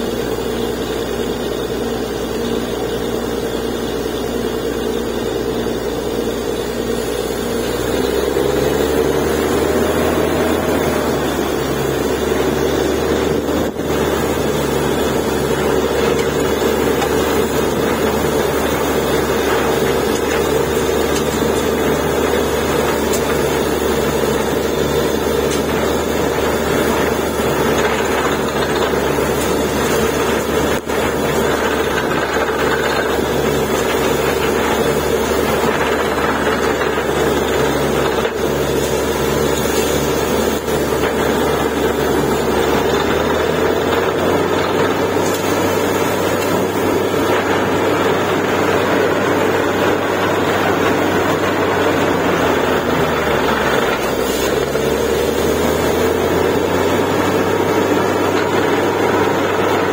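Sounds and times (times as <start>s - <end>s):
air blowing water from bore: 0.0s - 59.9s
drilling rig engine running: 0.0s - 59.9s.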